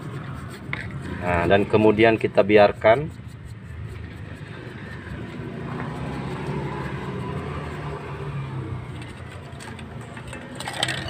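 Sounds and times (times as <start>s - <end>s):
toothbrush scrubbing metal: 0.0s - 11.0s.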